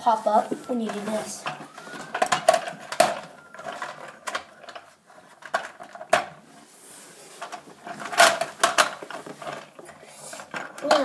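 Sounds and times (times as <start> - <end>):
plastic toy parts clicking: 0.9 - 6.3, 7.4 - 11.0.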